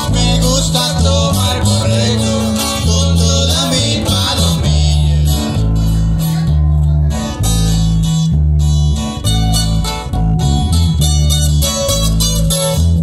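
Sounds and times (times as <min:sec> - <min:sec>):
acoustic guitars strumming: 0:00.0 - 0:13.0
deep bass notes: 0:00.0 - 0:13.0.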